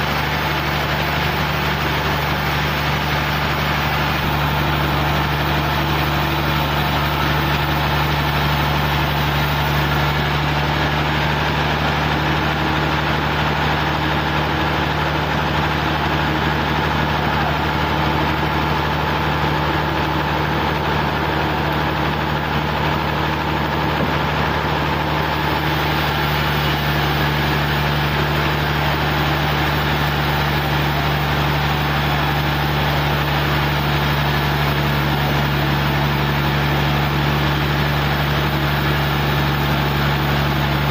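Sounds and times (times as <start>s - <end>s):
engine droning: 0.0s - 40.9s.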